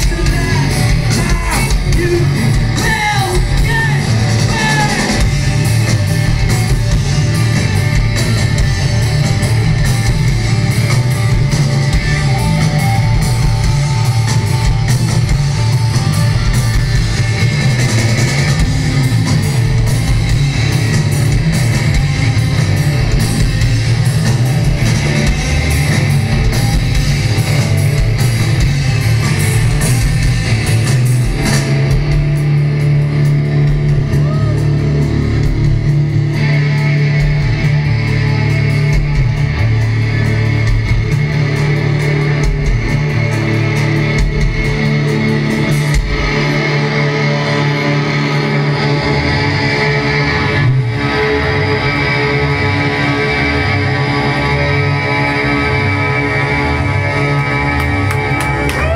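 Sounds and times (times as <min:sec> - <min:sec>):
drum kit: 0:00.0 - 0:58.9
electric guitar: 0:00.0 - 0:58.9
live rock band playing: 0:00.0 - 0:58.9.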